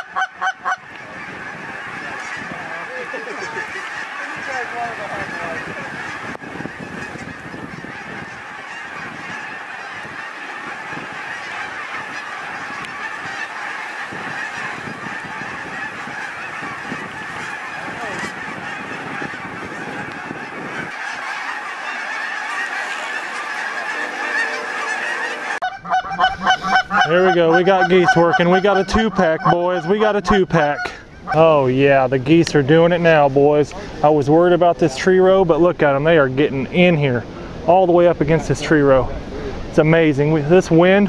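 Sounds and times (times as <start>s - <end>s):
geese honking: 0.0s - 37.1s, 39.8s - 41.0s.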